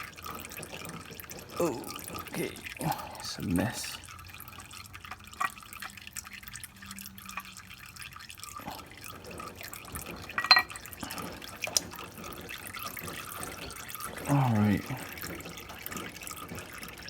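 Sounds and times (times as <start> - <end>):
oil dripping into pan: 0.0 - 17.0.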